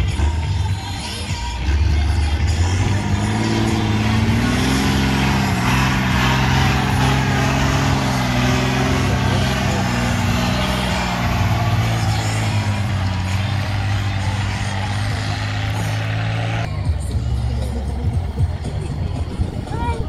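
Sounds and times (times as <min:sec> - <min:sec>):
diesel truck engine revving: 0:00.0 - 0:19.7.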